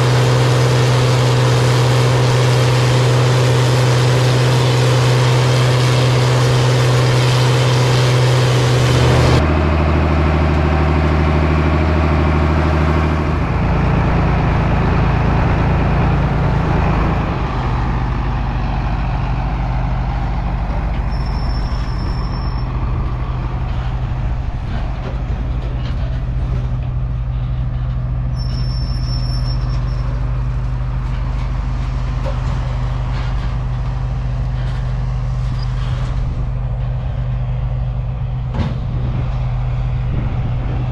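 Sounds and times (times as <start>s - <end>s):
diesel farm machinery engine drone: 0.0s - 40.9s.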